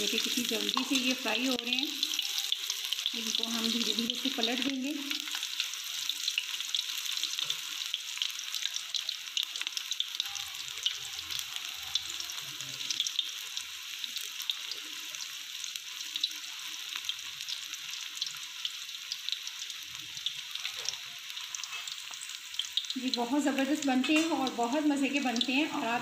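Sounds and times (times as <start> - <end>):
potato slices deep-frying in oil: 0.0 - 26.0.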